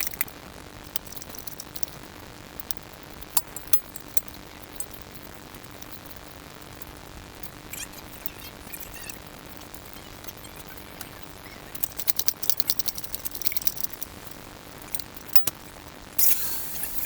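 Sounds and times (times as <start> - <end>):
small metal objects clicking: 0.0 - 2.0, 2.6 - 15.6, 16.2 - 17.0.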